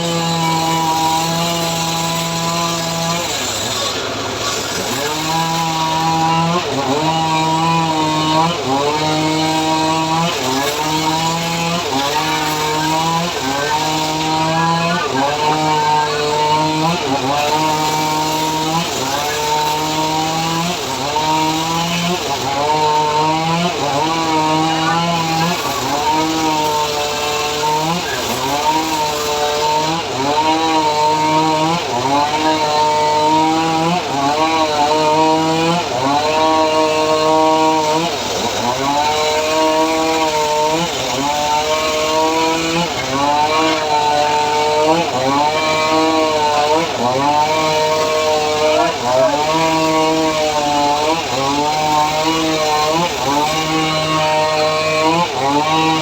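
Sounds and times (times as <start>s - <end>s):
engine-driven saw cutting wood: 0.0s - 56.0s.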